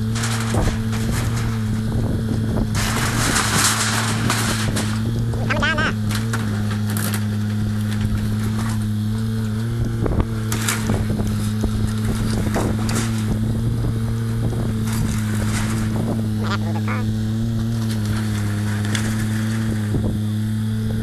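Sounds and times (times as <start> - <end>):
cracks and knocks of demolition: 0.0 - 16.5, 17.1 - 20.8
demolition machine engine running: 0.0 - 21.0.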